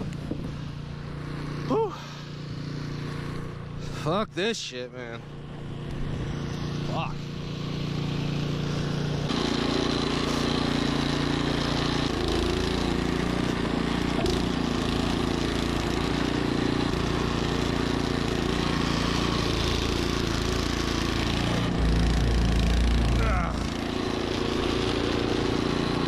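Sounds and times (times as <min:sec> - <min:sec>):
snowblower engine running: 0:00.0 - 0:26.0.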